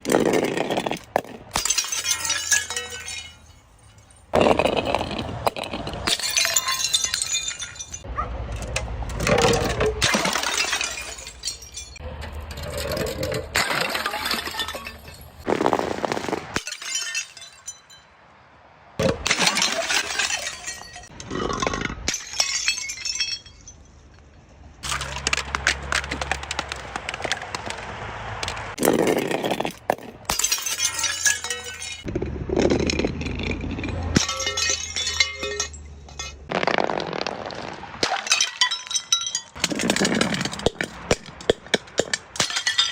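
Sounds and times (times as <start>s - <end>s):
glass bottles breaking: 0.0s - 8.1s, 9.2s - 18.1s, 19.0s - 23.9s, 24.8s - 27.4s, 28.8s - 42.9s.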